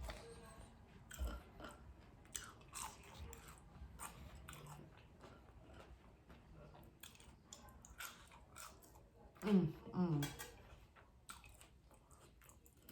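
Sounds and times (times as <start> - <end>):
person chewing food: 0.0 - 9.5, 10.2 - 12.9.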